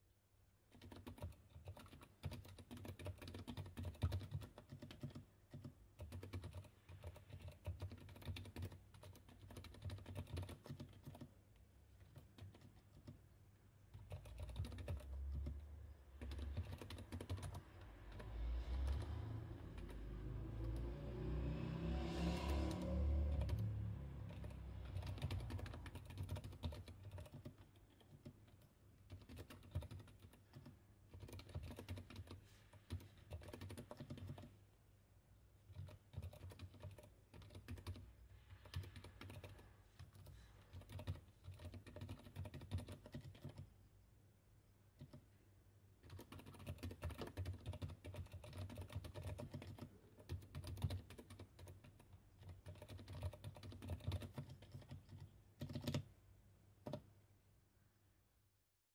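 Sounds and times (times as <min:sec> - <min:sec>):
mechanical keyboard typing: 0:00.7 - 0:11.3, 0:12.0 - 0:13.2, 0:13.9 - 0:20.8, 0:22.5 - 0:34.6, 0:35.6 - 0:43.7, 0:45.0 - 0:45.3, 0:46.0 - 0:56.1, 0:56.8 - 0:57.1.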